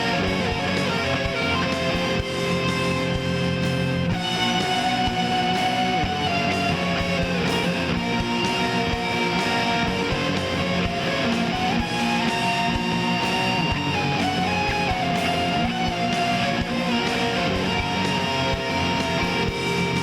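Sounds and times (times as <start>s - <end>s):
electric guitars: 0.0s - 20.0s
steady drum beat: 0.0s - 20.0s.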